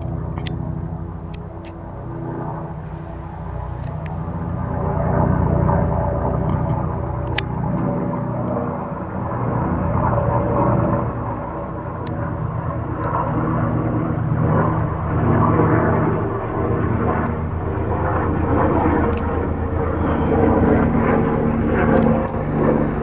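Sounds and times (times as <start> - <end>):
helicopter rotor and engine drone: 0.0 - 23.0.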